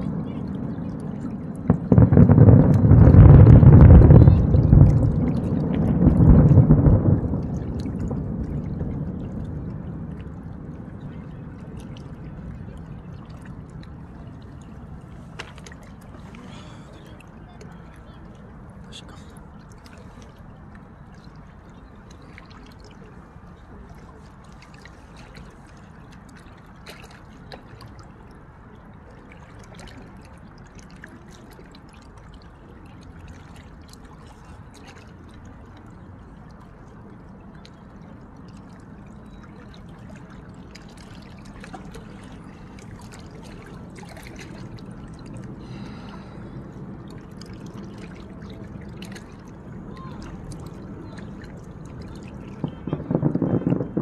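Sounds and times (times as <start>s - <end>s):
river water lapping: 0.0s - 54.0s
small water splashes: 0.0s - 54.0s.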